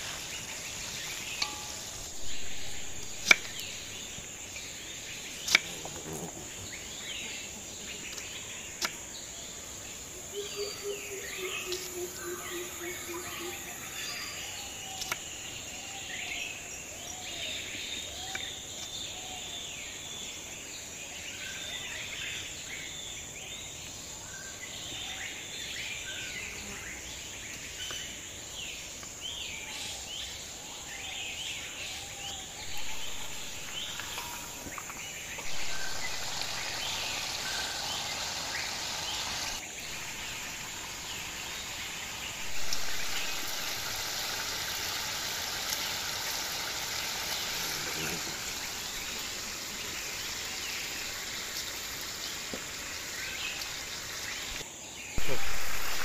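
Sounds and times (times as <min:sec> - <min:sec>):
high insect drone: 0:00.0 - 0:17.4, 0:25.6 - 0:56.0
even hiss: 0:00.0 - 0:19.9, 0:25.6 - 0:56.0
birds chirping: 0:00.0 - 0:20.9, 0:27.3 - 0:56.0.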